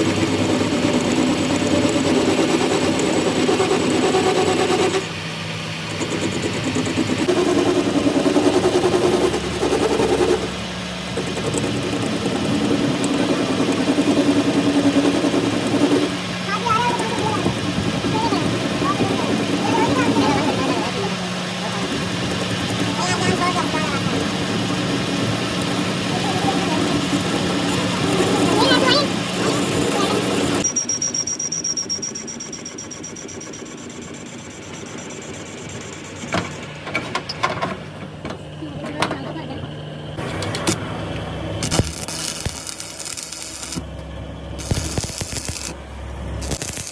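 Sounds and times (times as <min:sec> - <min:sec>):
tractor engine running: 0:00.0 - 0:39.0, 0:40.2 - 0:46.9.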